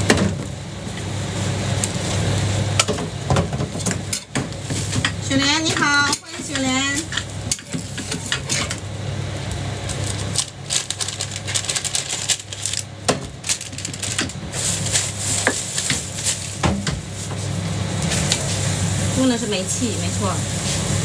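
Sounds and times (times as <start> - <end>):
gas burner hum: 0.0 - 21.0.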